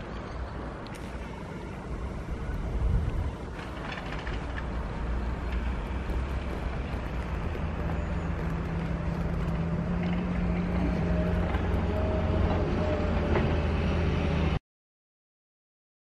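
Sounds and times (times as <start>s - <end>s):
diesel engines low drone: 0.0s - 14.6s
higher engine note: 1.0s - 14.6s.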